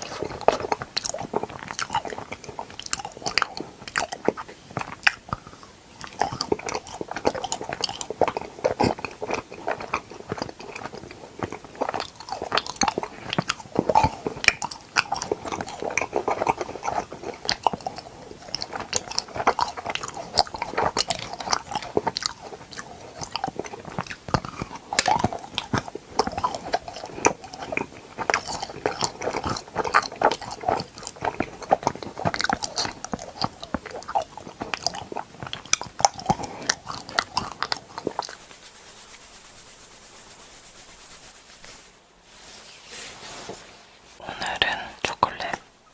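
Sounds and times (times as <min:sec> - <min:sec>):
crunchy bites and chewing: 0:00.0 - 0:38.5
smacking mouth sounds: 0:00.0 - 0:39.9, 0:44.2 - 0:45.7.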